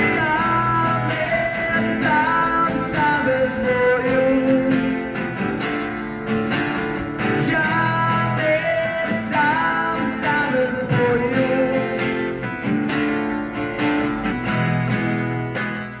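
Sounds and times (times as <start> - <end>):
guitar music over a beat: 0.0 - 16.0.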